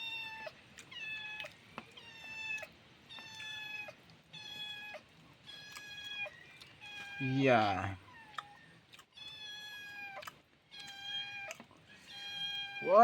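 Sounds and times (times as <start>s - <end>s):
cat meowing: 0.0s - 13.0s.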